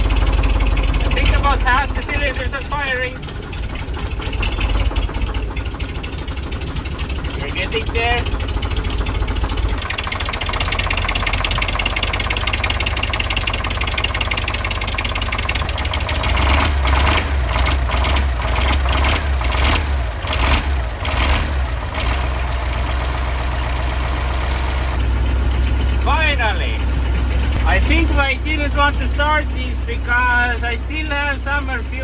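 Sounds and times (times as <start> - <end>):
diesel engine running rough: 0.0 - 32.0.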